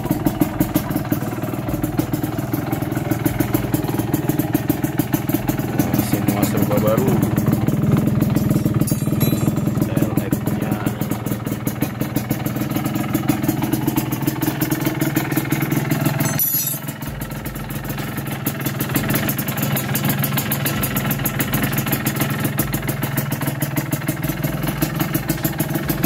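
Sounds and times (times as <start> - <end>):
two-stroke engine idling: 0.0 - 26.0.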